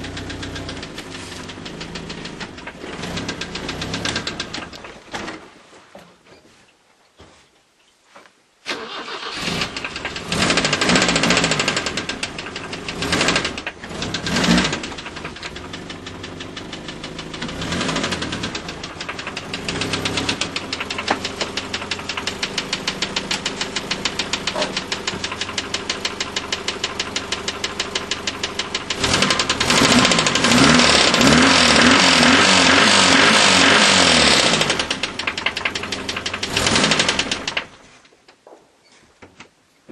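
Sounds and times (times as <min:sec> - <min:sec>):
engine starting and revving: 0:00.0 - 0:04.9, 0:08.7 - 0:37.7
engine knocking: 0:00.0 - 0:05.0, 0:09.6 - 0:37.8.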